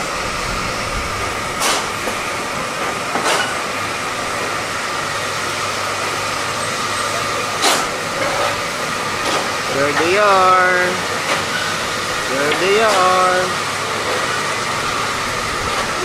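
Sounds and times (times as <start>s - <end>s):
ferris wheel machinery drone: 0.0s - 16.0s.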